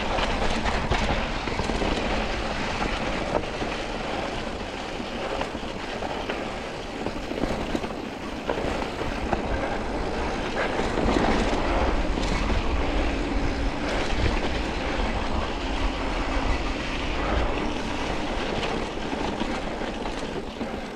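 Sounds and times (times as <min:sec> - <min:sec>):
bike rattling over bumps: 0:00.0 - 0:20.9
steady low rumble: 0:00.0 - 0:20.9.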